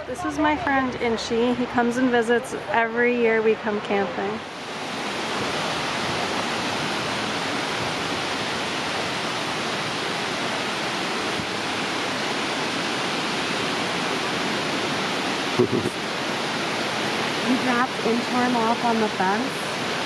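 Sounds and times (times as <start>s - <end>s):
stream water rushing: 1.4s - 20.0s.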